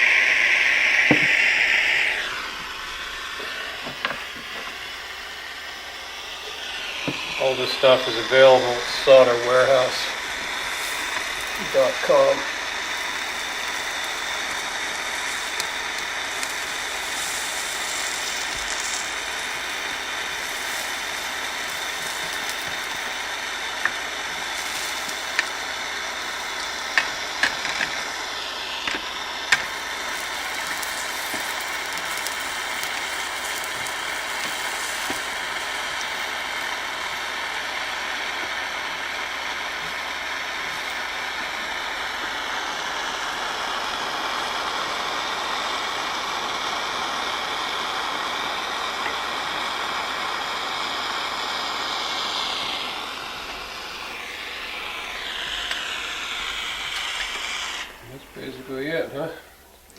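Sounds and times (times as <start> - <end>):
torch flame hissing: 0.0 - 59.9.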